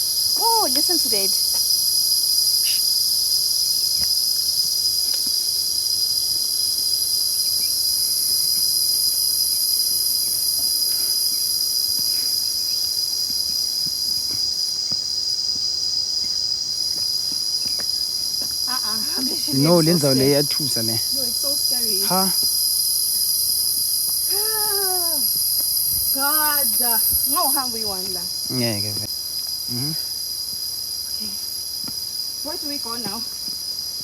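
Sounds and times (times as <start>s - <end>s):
insects droning shrilly: 0.0s - 34.0s.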